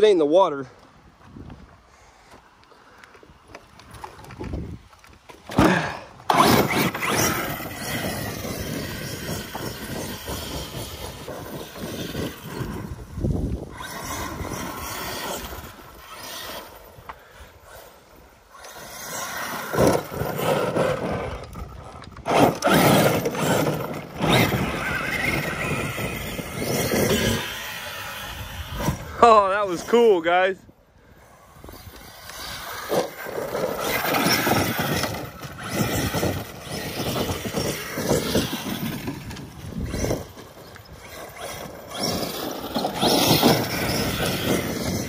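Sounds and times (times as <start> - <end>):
rushing tyre noise: 5.4 - 29.9, 31.2 - 45.0
electric motor whining: 5.5 - 30.0, 31.0 - 45.0.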